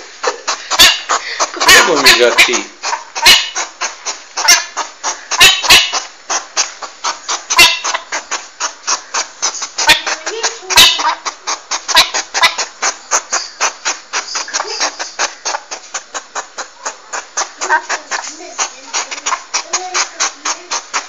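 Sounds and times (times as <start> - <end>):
porcupine clicking chatter: 0.0 - 21.0
porcupine sharp calls: 0.0 - 21.0
porcupine squeak: 0.2 - 21.0.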